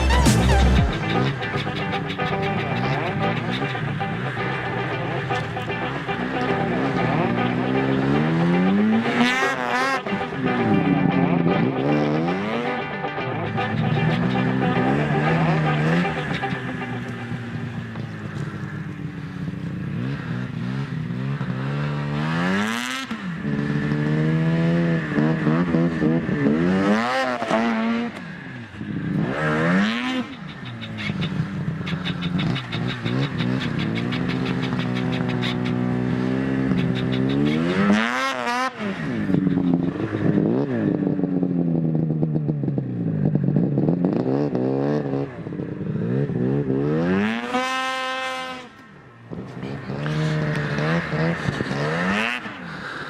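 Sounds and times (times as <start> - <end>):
snowmobile engine: 0.0 - 53.0.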